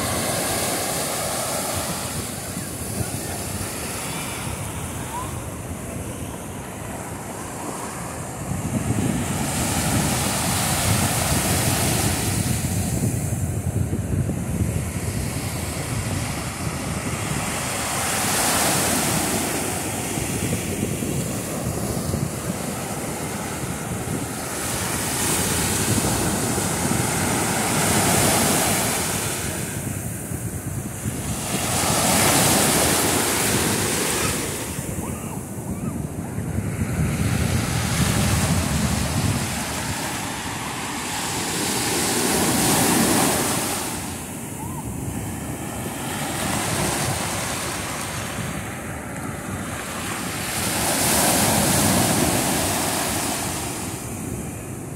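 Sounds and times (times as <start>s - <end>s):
ocean surf breaking on shore: 0.0s - 54.9s
wind noise on microphone: 0.0s - 54.9s.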